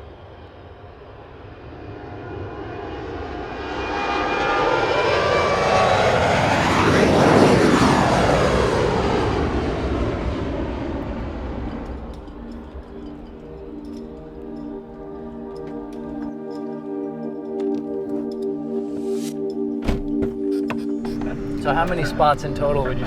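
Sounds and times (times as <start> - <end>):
airliner engine noise: 0.0 - 23.0.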